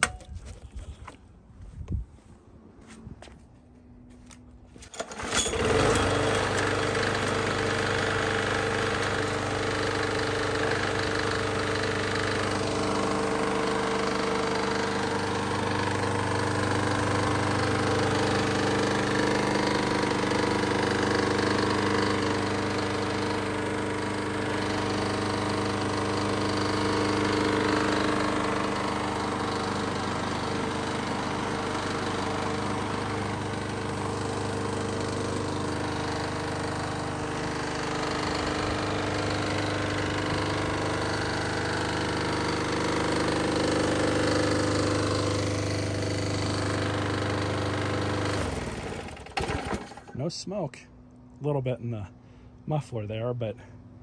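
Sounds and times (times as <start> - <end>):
lawn mower engine running: 4.6 - 51.3.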